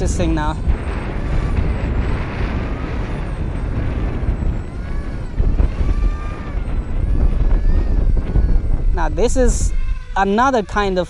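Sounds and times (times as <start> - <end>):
faint wavering whine: 0.0 - 11.0
wind buffeting microphone: 0.0 - 11.0.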